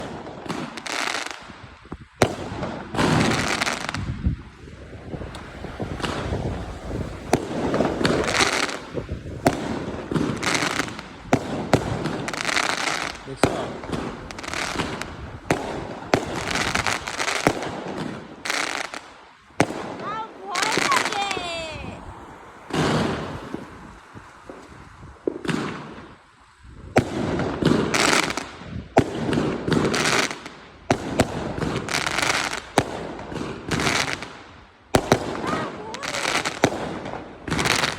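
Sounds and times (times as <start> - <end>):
firework bangs: 0.0 - 37.9
firework crackling: 0.0 - 37.9.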